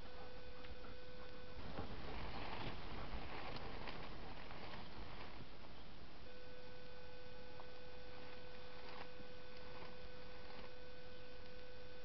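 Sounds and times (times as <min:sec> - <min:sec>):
steady hiss: 0:00.0 - 0:12.0
thin whining hum: 0:00.0 - 0:12.0.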